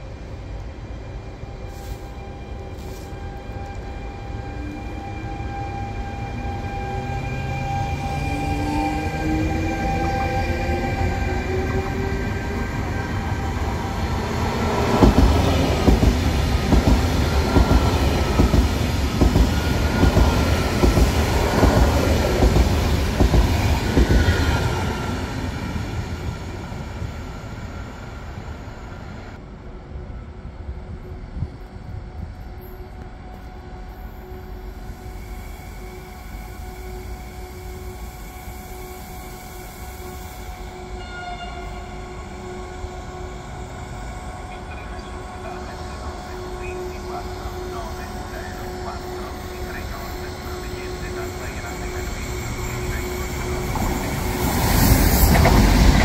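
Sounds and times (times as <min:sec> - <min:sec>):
distant train rumble: 0:00.0 - 0:56.0
high-speed train rumbling past: 0:00.0 - 0:56.0.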